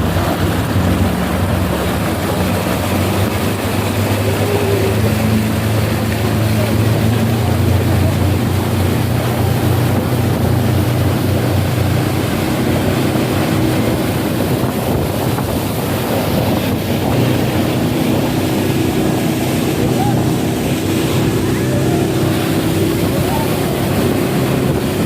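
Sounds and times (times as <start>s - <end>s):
outboard motor running: 0.0s - 25.0s
water rushing: 0.0s - 25.0s
wind buffeting microphone: 0.0s - 25.0s.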